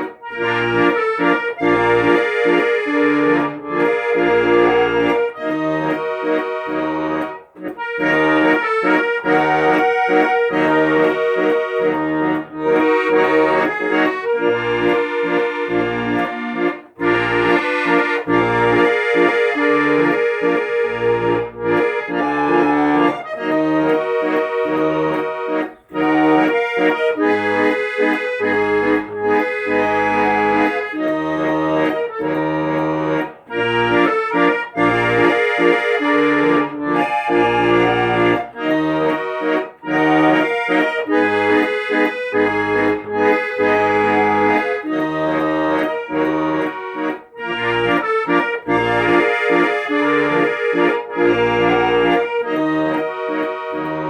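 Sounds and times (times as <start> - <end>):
accordion music: 0.0 - 54.0.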